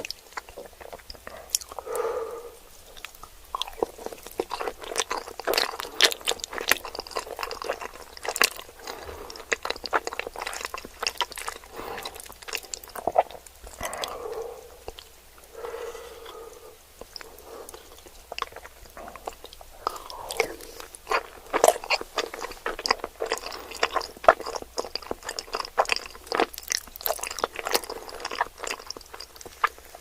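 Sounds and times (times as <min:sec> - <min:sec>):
chewing: 0:00.0 - 0:30.0.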